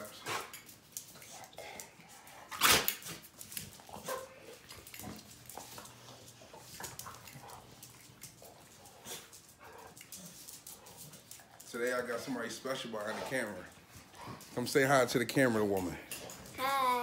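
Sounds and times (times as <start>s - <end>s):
faint dog sounds: 0.0s - 14.6s
dogs moving on concrete: 0.0s - 17.0s.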